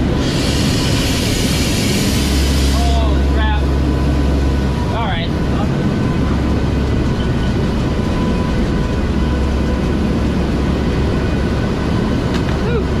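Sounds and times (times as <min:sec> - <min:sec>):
faint steady whines: 0:00.0 - 0:13.0
turboprop engines droning: 0:00.0 - 0:13.0.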